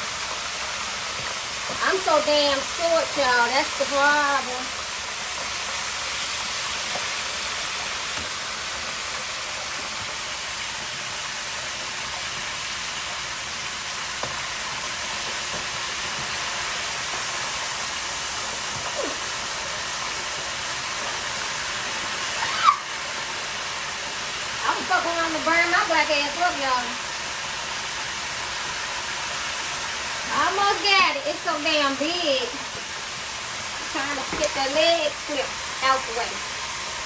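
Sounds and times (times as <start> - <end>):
oil sizzling in deep fryer: 0.0 - 37.0.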